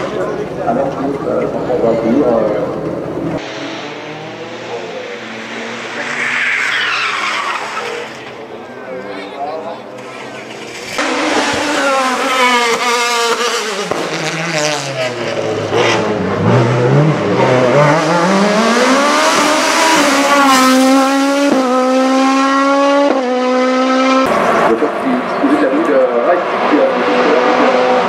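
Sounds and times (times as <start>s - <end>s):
race car engine downshifting and accelerating: 0.0s - 28.0s.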